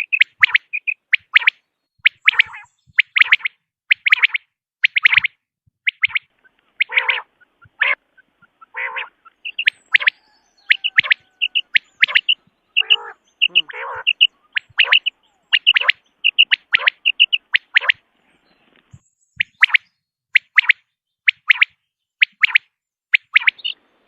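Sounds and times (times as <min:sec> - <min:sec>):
quail calling: 0:00.0 - 0:18.0, 0:19.4 - 0:23.8.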